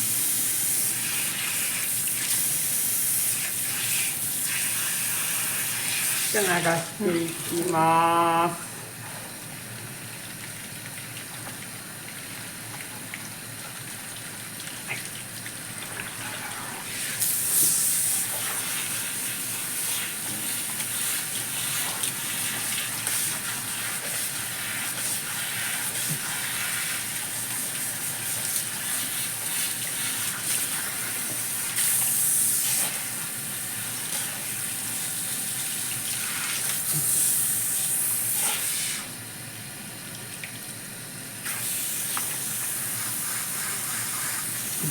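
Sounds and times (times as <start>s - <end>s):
shower spray running water: 0.0s - 9.5s, 10.6s - 39.3s, 41.4s - 44.9s.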